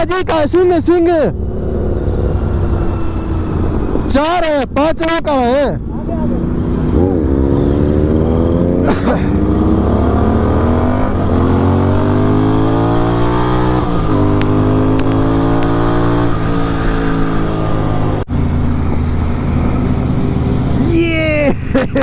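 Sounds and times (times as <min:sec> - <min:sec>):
motorcycle engine accelerating: 0:00.7 - 0:22.0.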